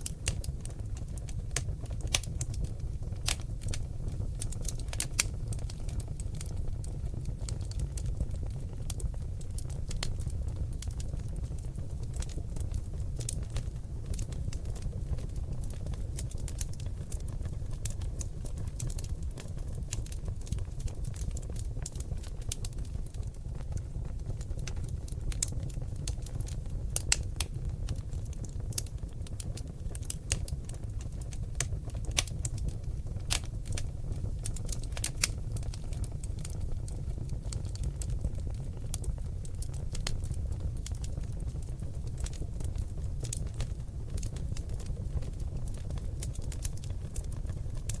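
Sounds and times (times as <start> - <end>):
logs crackling in fireplace: 0.0 - 48.0.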